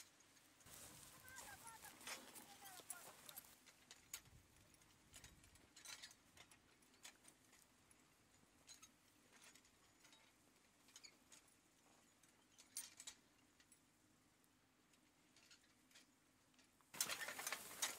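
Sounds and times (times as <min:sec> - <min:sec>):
faint chains and metal rattling: 0:00.0 - 0:17.9.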